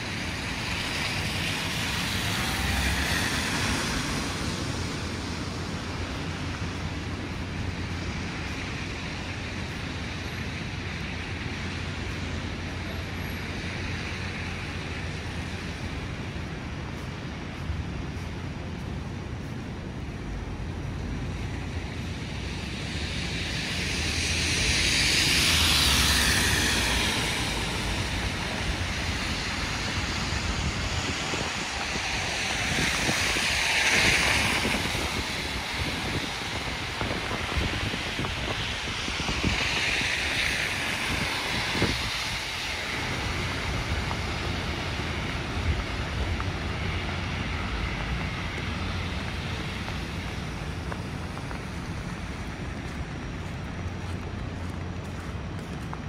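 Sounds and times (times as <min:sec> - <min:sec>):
background traffic rush: 0:00.0 - 0:56.0
tyre hiss on wet road: 0:00.0 - 0:56.0.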